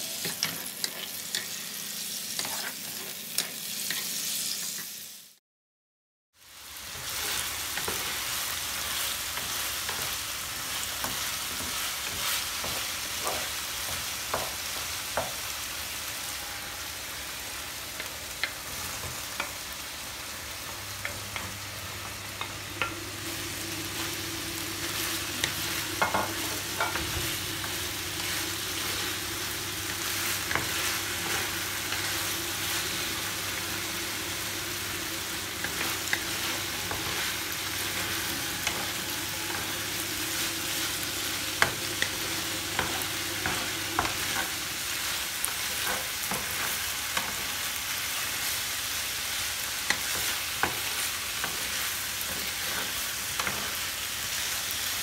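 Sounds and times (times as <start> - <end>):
chicken sizzling in pan: 0.0 - 5.4, 6.4 - 55.0.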